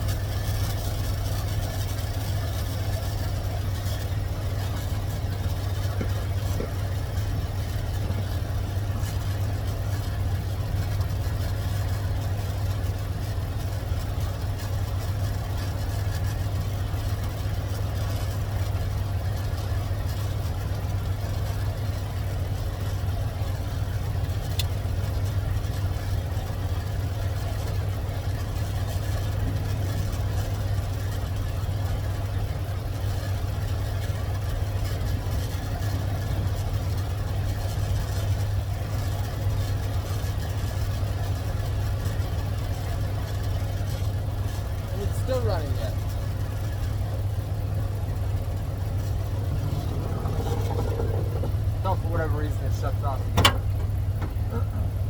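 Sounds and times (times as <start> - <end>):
truck engine idling: 0.0 - 55.0
truck engine starting: 0.0 - 55.0.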